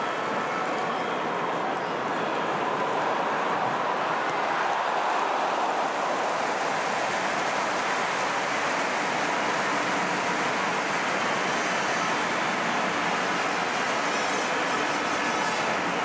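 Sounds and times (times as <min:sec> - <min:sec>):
stadium crowd noise: 0:00.0 - 0:16.0.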